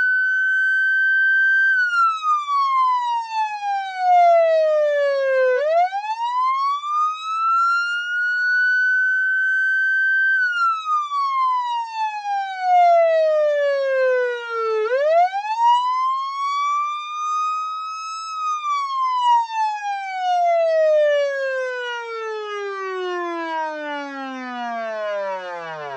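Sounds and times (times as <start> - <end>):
police siren wailing: 0.0 - 25.9.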